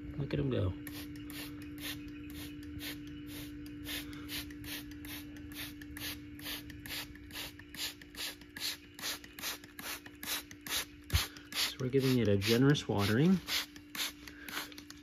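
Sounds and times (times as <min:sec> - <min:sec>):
spray bottle click and spritz: 0:00.8 - 0:15.0.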